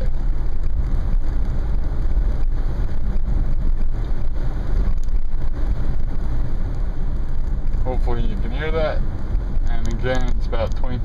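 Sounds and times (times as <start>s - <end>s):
road noise: 0.0s - 11.0s
wind rushing through sunroof: 0.0s - 11.0s.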